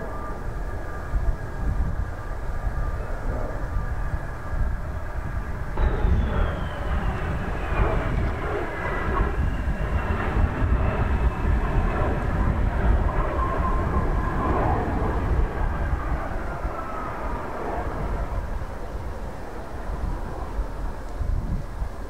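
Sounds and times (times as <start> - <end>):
high turbine whine: 0.0 - 22.0
jet engine low rumble: 0.0 - 22.0.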